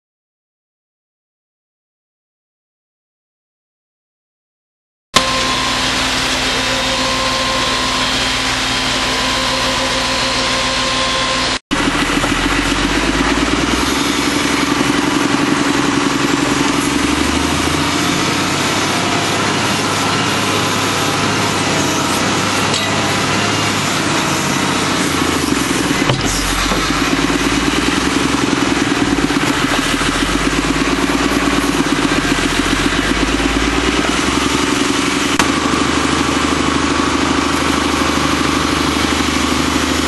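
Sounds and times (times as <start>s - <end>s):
screening machine droning: 5.2s - 40.0s.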